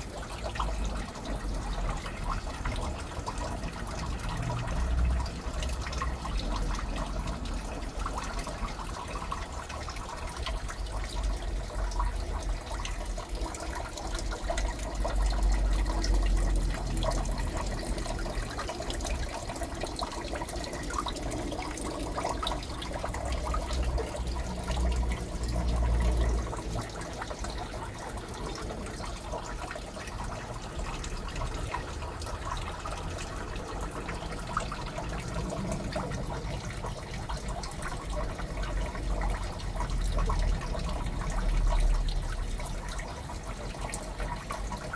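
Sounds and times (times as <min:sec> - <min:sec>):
aquarium water trickling and bubbling: 0:00.0 - 0:44.9.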